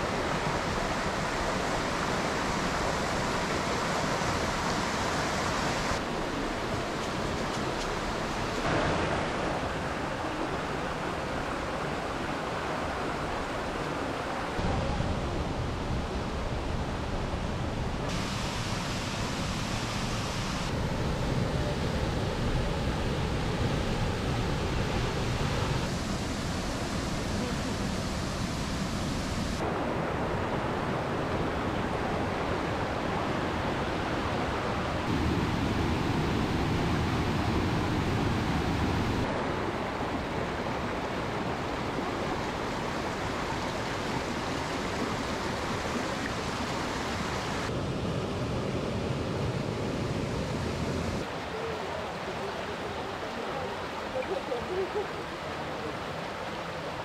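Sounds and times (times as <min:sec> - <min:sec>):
stream and small waterfalls rushing: 0:00.0 - 0:57.0.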